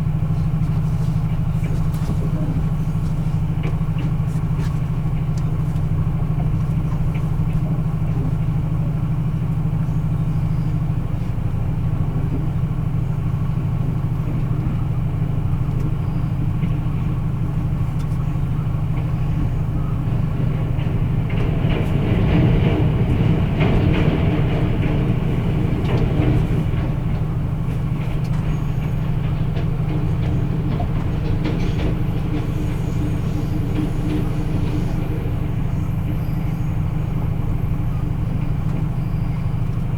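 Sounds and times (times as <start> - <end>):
diesel locomotive engine hum: 0.0 - 39.9.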